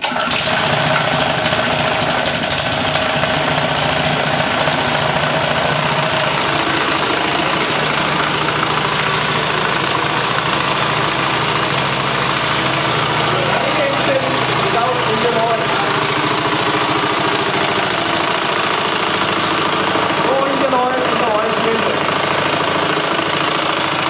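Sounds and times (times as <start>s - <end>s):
small engine running loudly: 0.0s - 24.0s.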